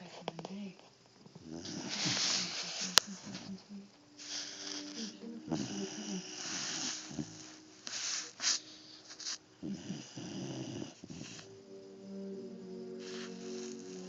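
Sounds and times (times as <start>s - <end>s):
dog snoring: 1.3s - 3.5s, 4.2s - 11.6s, 12.2s - 14.0s.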